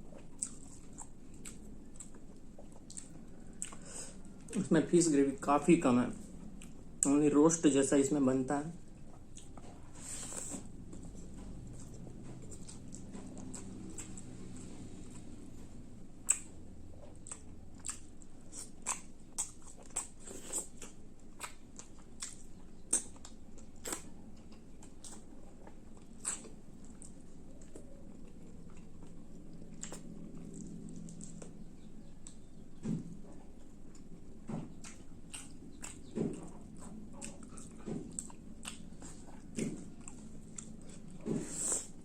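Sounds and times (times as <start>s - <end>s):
person chewing food: 0.0s - 5.4s, 6.2s - 7.3s, 8.8s - 42.0s.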